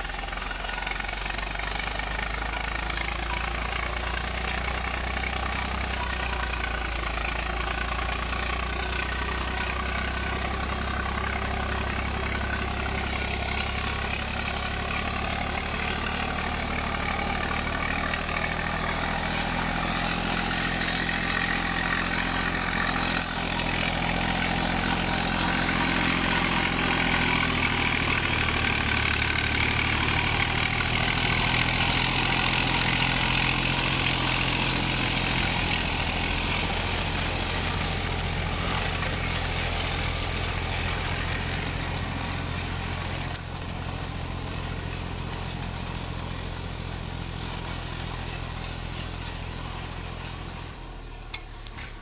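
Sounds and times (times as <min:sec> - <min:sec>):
forwarder engine running under load: 0:00.0 - 0:52.0.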